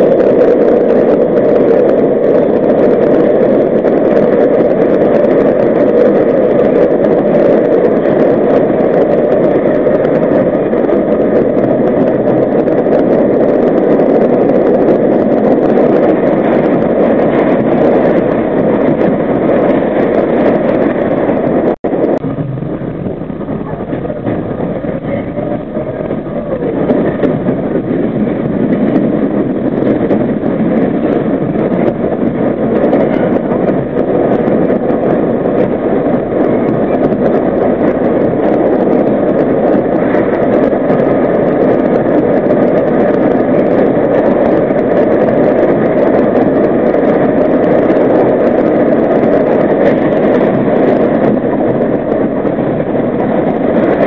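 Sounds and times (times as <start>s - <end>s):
subway train wheels on rails: 0.0s - 54.0s.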